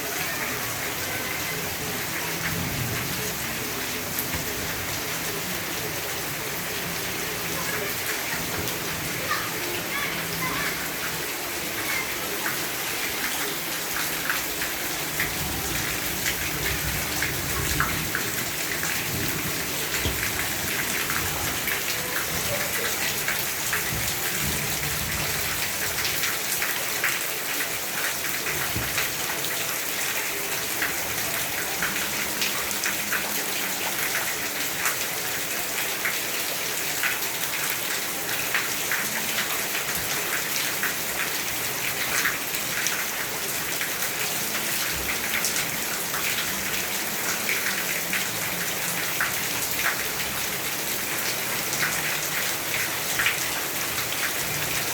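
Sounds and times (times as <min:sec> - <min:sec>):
rain falling: 0:00.0 - 0:54.9
raindrops ticking on a surface: 0:00.1 - 0:54.9.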